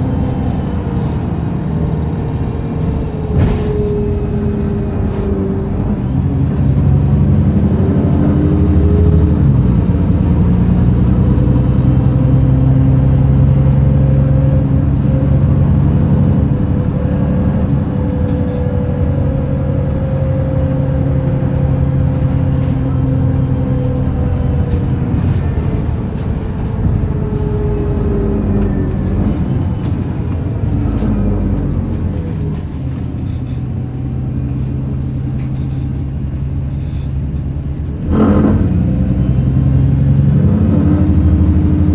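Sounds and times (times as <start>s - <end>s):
bus diesel engine grumbling: 0.0s - 41.9s.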